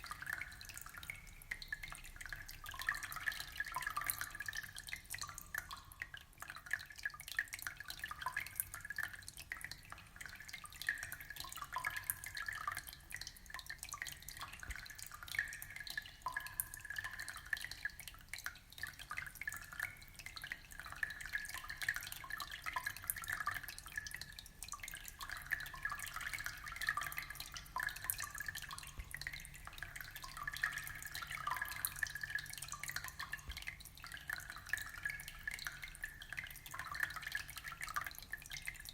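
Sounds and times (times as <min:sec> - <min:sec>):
aquarium water trickling: 0:00.0 - 0:38.9
small drip-like splashes: 0:00.0 - 0:38.9.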